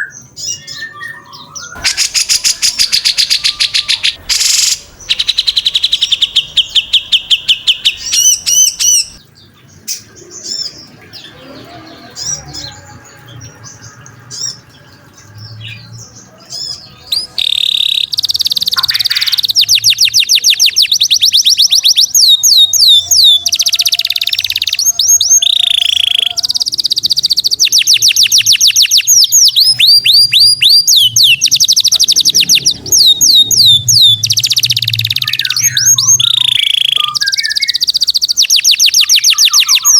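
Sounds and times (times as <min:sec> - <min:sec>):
songbird trilling: 0:00.0 - 0:10.8, 0:16.4 - 0:39.9.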